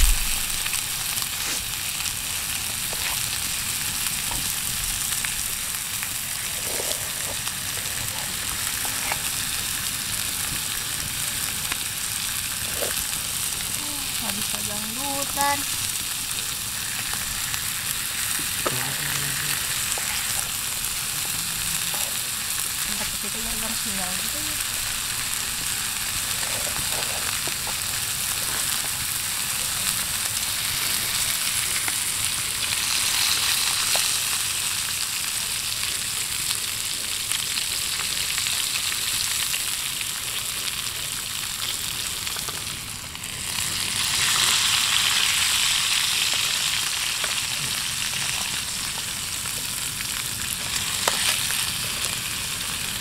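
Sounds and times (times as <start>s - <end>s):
meat sizzling in a pot: 0.0s - 53.0s.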